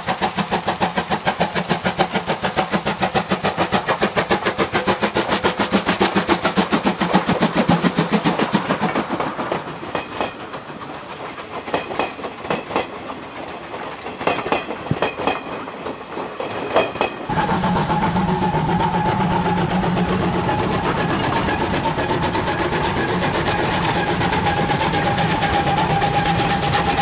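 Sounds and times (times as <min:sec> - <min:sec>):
steady train running noise: 0:00.0 - 0:27.0
train wheels clattering over rail joints: 0:00.0 - 0:27.0.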